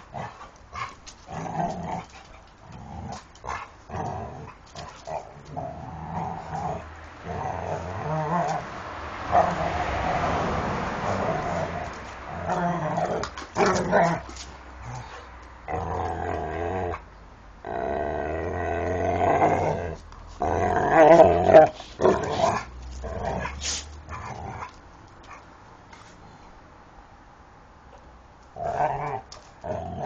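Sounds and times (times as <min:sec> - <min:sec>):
dogs growling: 0:00.0 - 0:17.0, 0:17.6 - 0:24.8, 0:28.5 - 0:30.0.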